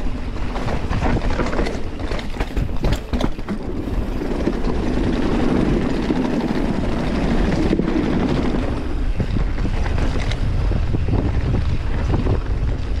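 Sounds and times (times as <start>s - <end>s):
bike rattles and knocks: 0.0s - 13.0s
bike tyre noise: 0.0s - 13.0s
wind buffeting microphone: 0.0s - 13.0s.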